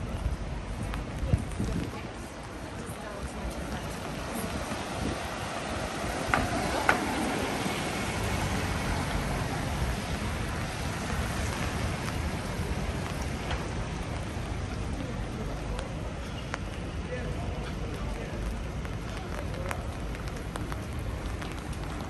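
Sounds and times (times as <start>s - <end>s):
city street noise: 0.0s - 22.0s
steady rain: 0.0s - 22.0s.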